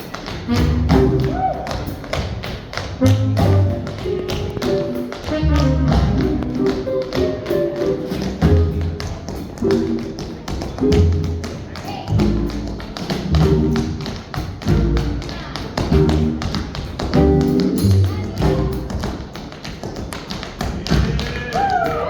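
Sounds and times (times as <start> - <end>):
swing music: 0.0 - 21.9
tap shoes tapping: 0.0 - 22.0.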